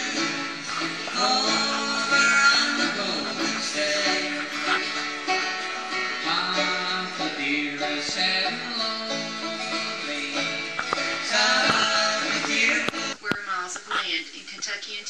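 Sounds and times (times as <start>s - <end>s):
banjo: 0.0s - 13.4s
acoustic guitar: 0.0s - 14.2s.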